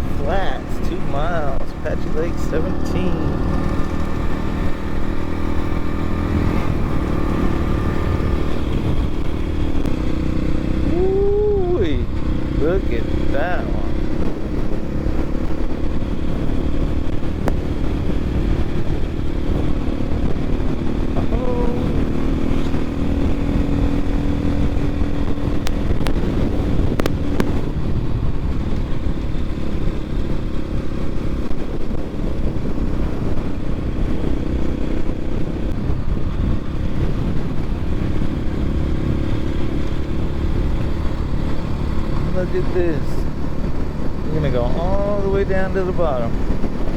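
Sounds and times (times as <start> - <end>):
dirt bike engine running: 0.0 - 46.9
wind and road noise: 0.0 - 46.9.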